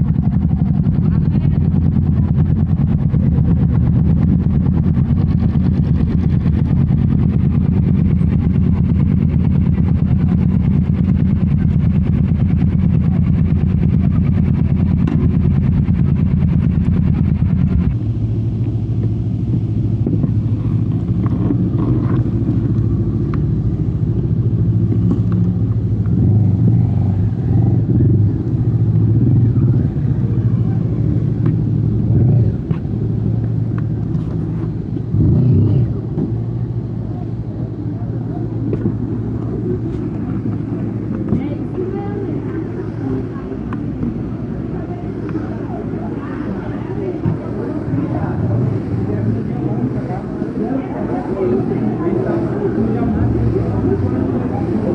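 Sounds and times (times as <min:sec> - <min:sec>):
motorcycle engine and exhaust: 0:00.0 - 0:54.9.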